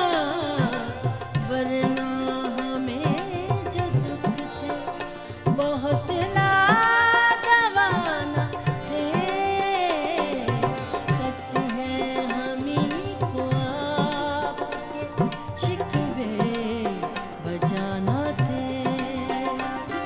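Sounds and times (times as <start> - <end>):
tabla playing: 0.0 - 20.0
woman singing: 0.0 - 20.0.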